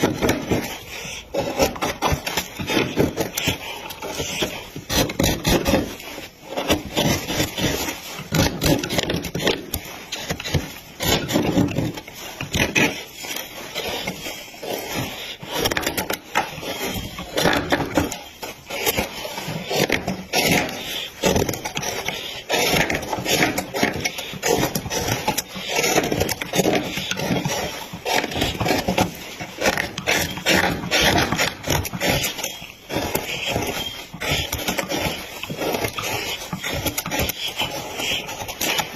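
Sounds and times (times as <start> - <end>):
hand scraping and rasping wood: 0.0 - 38.9.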